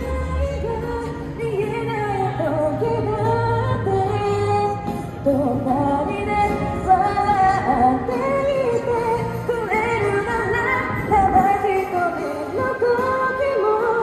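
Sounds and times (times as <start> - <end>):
backing music: 0.0 - 14.0
woman singing into microphone: 0.0 - 14.0.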